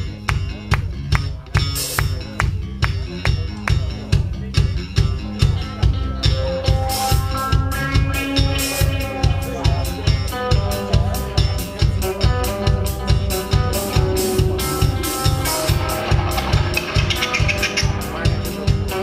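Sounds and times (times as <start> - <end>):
driving drum beat: 0.0 - 19.0
live band instrumental: 0.0 - 19.0.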